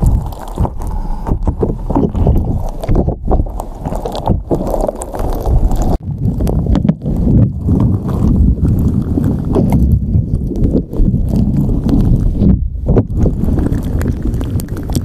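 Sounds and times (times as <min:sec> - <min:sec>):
slime squelching on microphone: 0:00.0 - 0:15.0.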